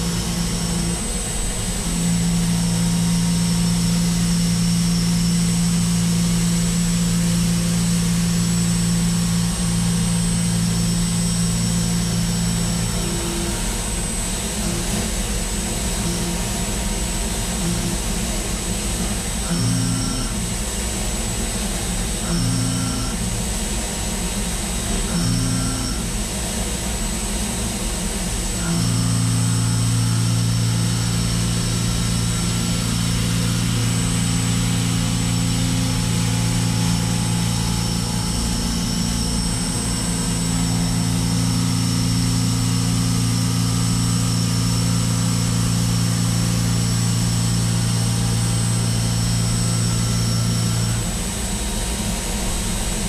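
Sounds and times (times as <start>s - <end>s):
machine hum with high whine: 0.0s - 53.0s
milling machine cutting metal: 0.0s - 53.0s.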